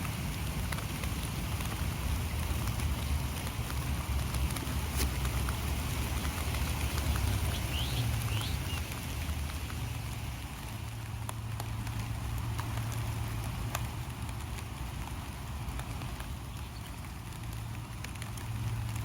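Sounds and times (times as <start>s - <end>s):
light rain falling: 0.0s - 19.0s
raindrops ticking: 0.0s - 19.0s.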